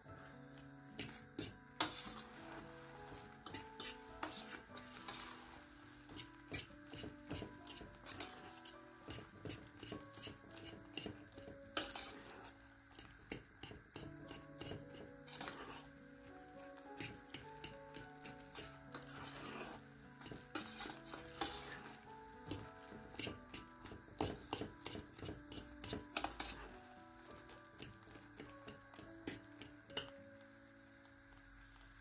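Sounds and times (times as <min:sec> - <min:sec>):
soft background music: 0:00.0 - 0:32.0
fork scraping and clicking on pot: 0:01.0 - 0:02.5, 0:03.4 - 0:15.9, 0:16.7 - 0:26.8, 0:27.4 - 0:30.1.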